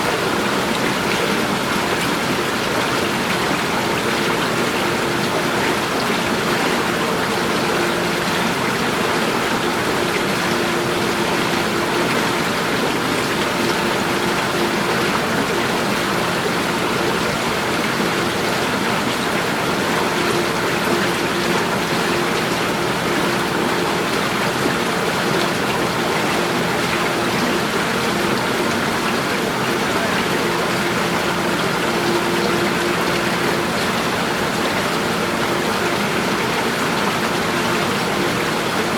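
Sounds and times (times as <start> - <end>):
water flowing: 0.0 - 38.9.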